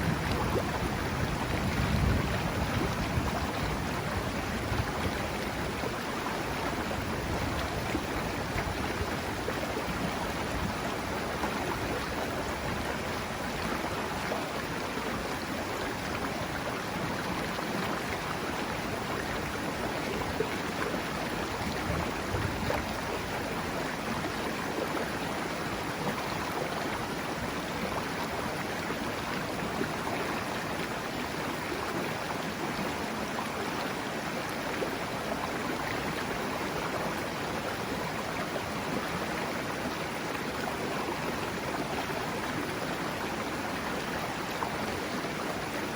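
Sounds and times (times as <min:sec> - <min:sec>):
river water rushing: 0:00.0 - 0:45.9.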